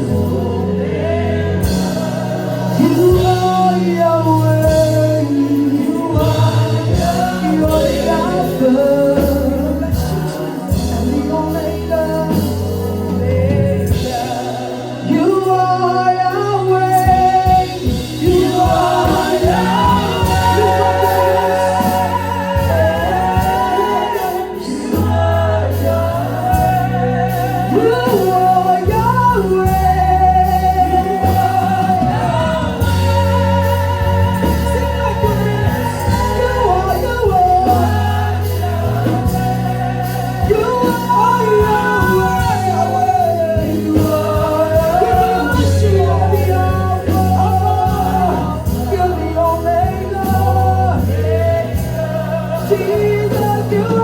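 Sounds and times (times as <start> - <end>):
gospel singing with band: 0.0 - 54.0
steady bass notes: 0.0 - 54.0.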